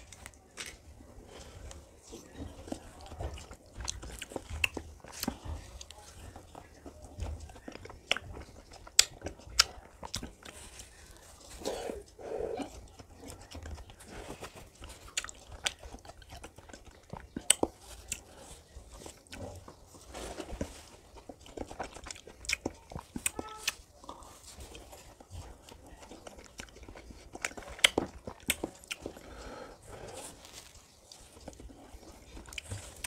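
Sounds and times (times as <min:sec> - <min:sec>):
person eating ice cream: 0:00.0 - 0:33.0.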